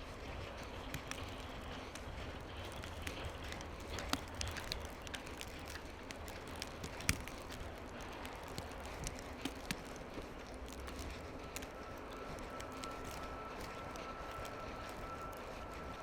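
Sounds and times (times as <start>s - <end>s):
low wind rumble: 0.0s - 16.0s
light clicks and crunches: 0.1s - 16.0s.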